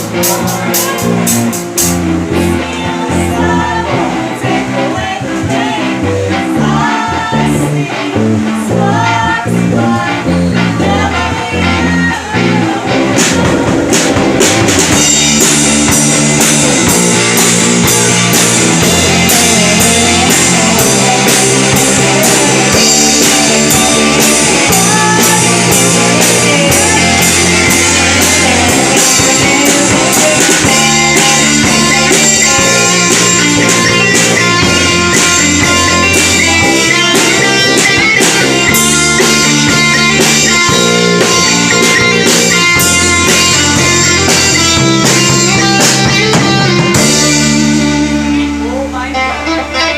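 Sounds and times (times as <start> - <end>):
drum kit beat: 0.0 - 48.7
rock band playing: 0.0 - 49.9.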